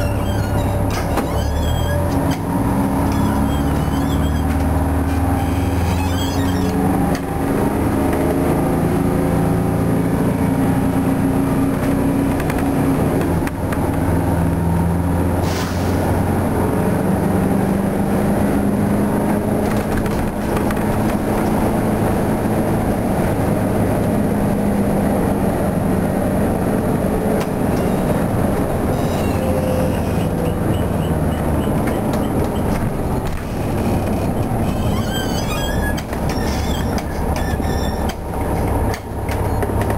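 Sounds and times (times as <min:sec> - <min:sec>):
bus engine running: 0:00.0 - 0:39.9
road rumble: 0:00.0 - 0:39.9.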